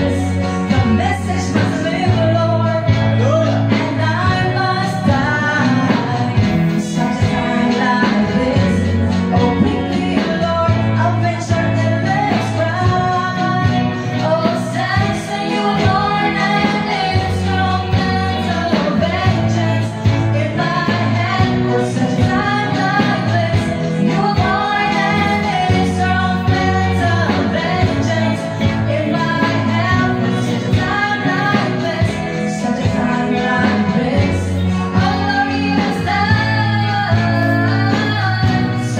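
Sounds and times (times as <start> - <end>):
electric guitar: 0.0 - 38.9
keyboard: 0.0 - 38.9
steady bass line: 0.0 - 38.9
women singing: 0.0 - 38.9.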